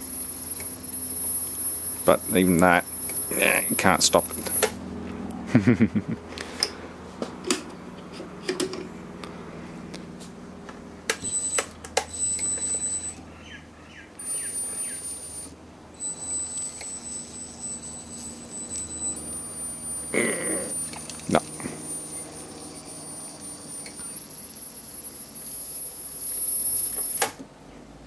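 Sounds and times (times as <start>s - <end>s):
high-pitched drive whine: 0.0s - 28.0s.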